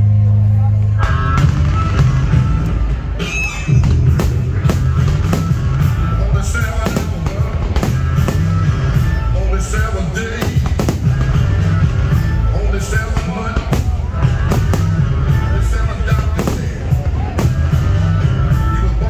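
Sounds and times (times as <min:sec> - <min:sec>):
loud music soundtrack: 0:00.0 - 0:19.0.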